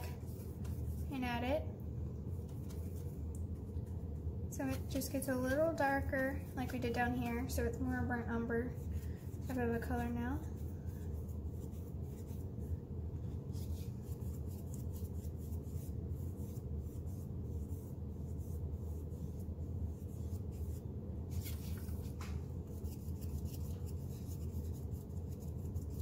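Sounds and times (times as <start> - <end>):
paintbrush scrubbing canvas: 0.0 - 1.4, 2.2 - 5.2, 6.2 - 26.0
low hum: 0.0 - 26.0.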